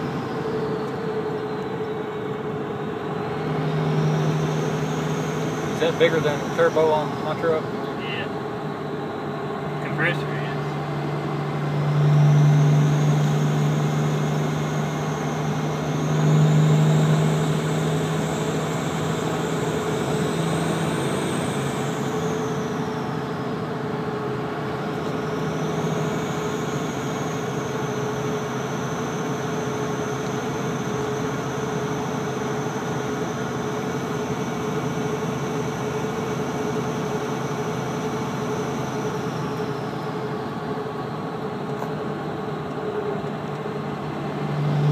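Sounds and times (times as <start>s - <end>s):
turbocharger whistling: 0.0s - 40.9s
diesel engine drone: 0.0s - 44.9s.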